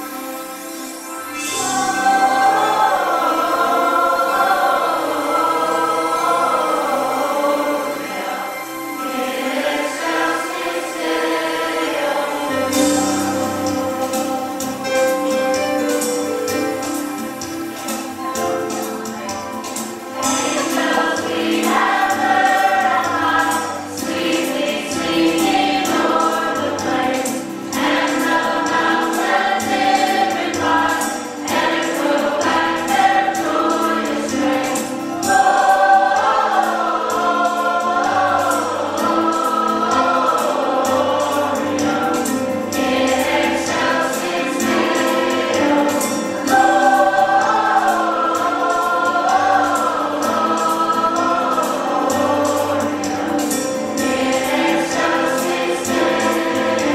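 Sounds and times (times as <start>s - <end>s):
choir singing: 0.0s - 56.9s
musical accompaniment: 0.0s - 56.9s.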